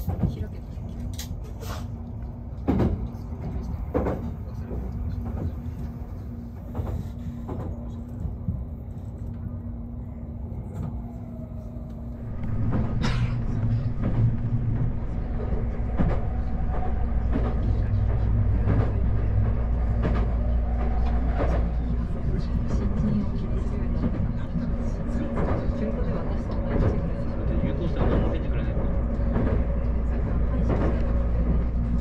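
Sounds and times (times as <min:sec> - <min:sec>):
train running low rumble: 0:00.0 - 0:32.0.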